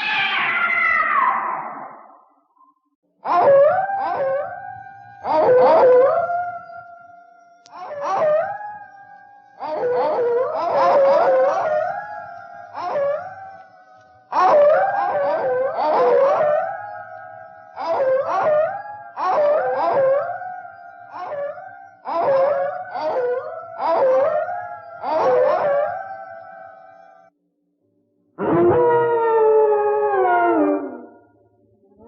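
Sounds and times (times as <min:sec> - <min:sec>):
dogs howling in chorus: 0:03.2 - 0:27.3, 0:28.4 - 0:31.2.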